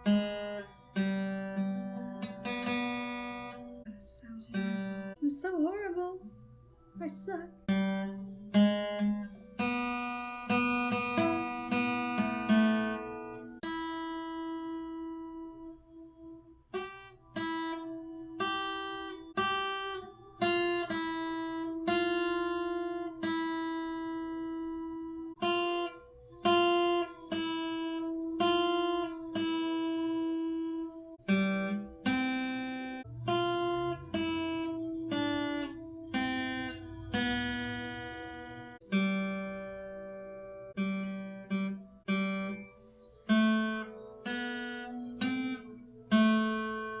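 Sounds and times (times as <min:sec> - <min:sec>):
acoustic guitar strummed and plucked: 0:00.0 - 0:47.0.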